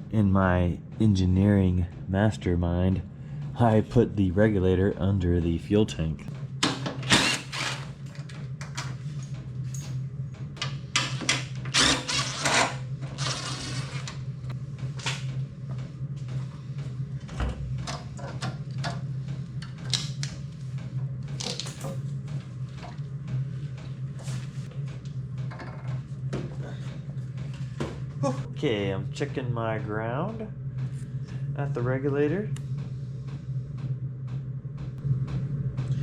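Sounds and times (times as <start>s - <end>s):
low hum: 0.0s - 36.0s.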